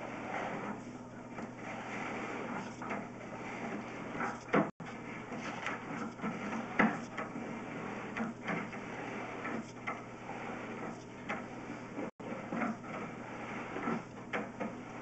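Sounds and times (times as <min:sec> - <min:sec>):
push cable knocking and scraping: 0:00.0 - 0:15.0.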